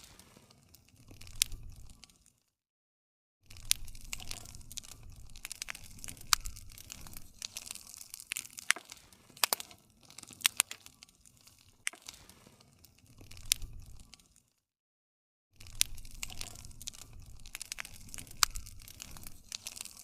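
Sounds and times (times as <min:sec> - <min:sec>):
wood fire crackling: 0:00.0 - 0:02.4, 0:03.5 - 0:14.5, 0:15.6 - 0:20.0.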